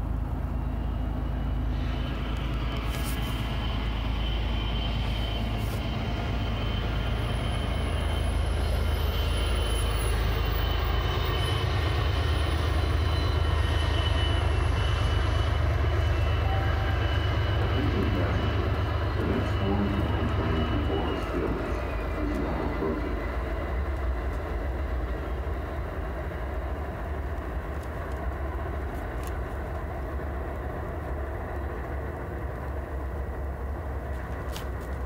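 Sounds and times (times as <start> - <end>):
high train whine: 0.0 - 35.0
train rumbling past: 0.0 - 35.0.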